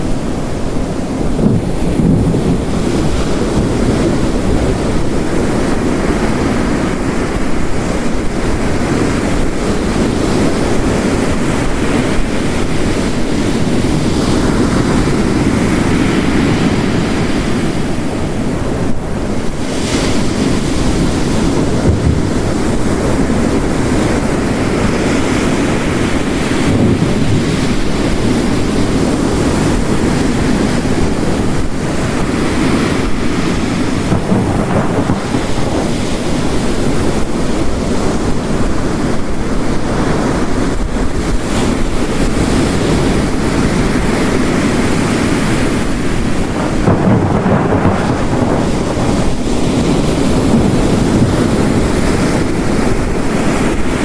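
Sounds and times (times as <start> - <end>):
heavy rain hiss: 0.0 - 54.0
ocean waves crashing: 0.0 - 54.0.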